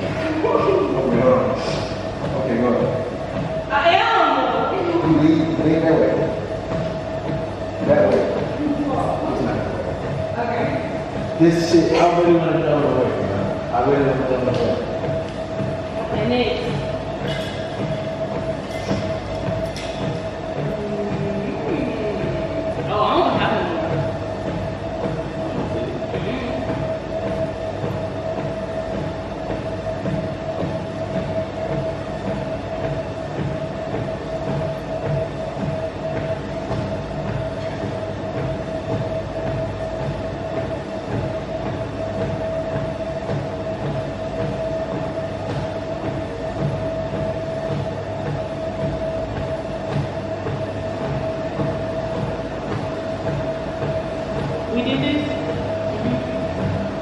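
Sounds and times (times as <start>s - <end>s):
mechanical rumble: 0.0s - 57.0s
mid-pitched hum: 0.0s - 57.0s.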